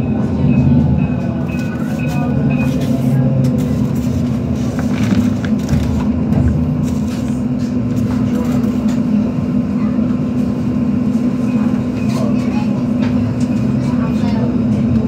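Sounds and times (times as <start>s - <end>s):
tram hum and wheel rumble: 0.0s - 15.0s.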